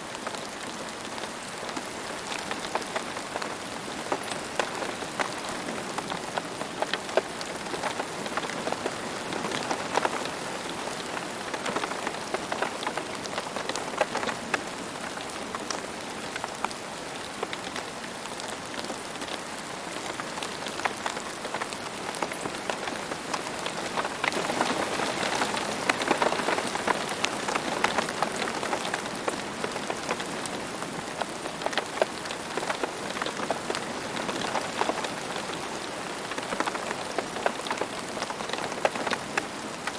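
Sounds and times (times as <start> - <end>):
rain ticking on hard surface: 0.0 - 39.9.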